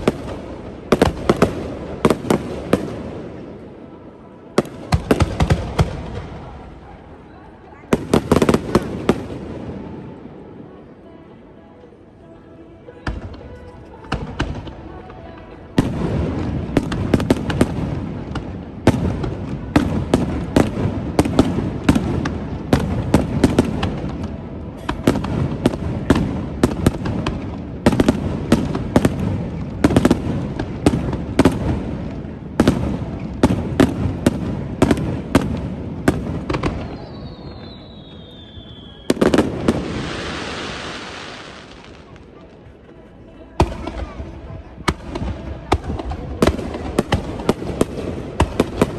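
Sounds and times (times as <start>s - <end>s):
fireworks bangs: 0.0s - 3.7s, 4.5s - 6.8s, 7.9s - 10.2s, 13.0s - 42.4s, 43.6s - 48.9s.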